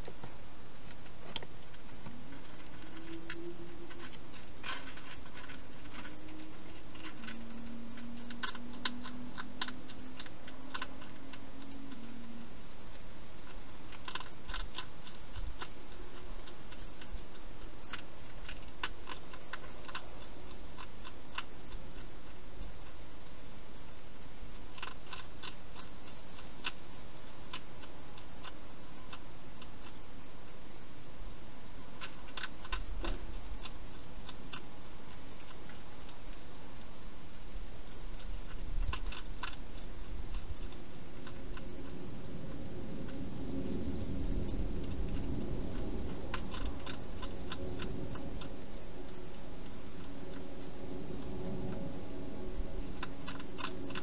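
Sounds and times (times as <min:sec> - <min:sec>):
hedgehog chewing clicks: 0:00.0 - 0:30.6, 0:31.9 - 0:54.0.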